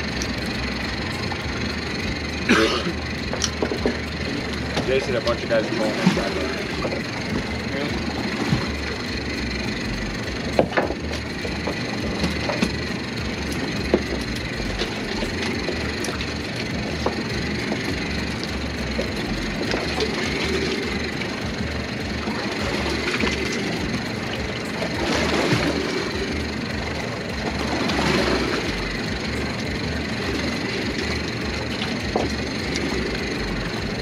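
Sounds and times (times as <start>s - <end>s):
outboard boat engine idling: 0.0s - 34.0s.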